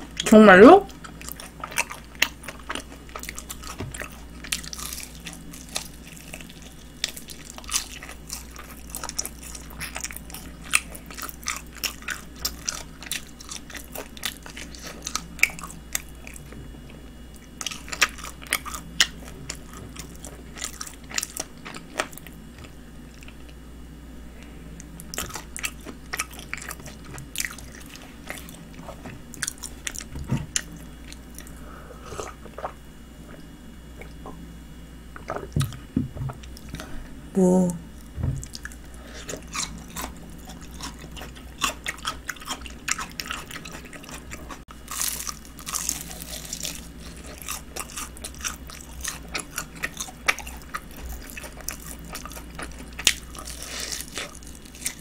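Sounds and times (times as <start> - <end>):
crunching fried chicken: 0.9 - 16.6, 17.4 - 23.6, 25.0 - 31.6, 38.5 - 55.0.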